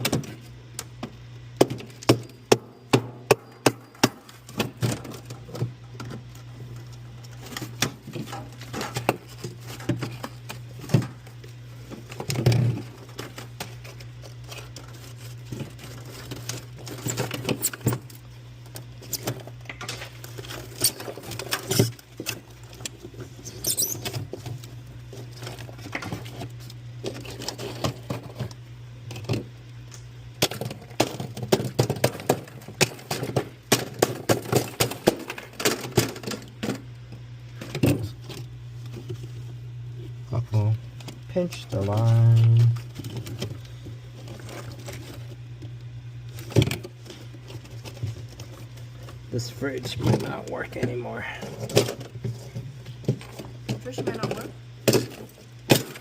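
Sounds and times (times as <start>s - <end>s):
steady low hum: 0.0s - 56.0s
tools tapping and scraping in freezer: 0.0s - 56.0s.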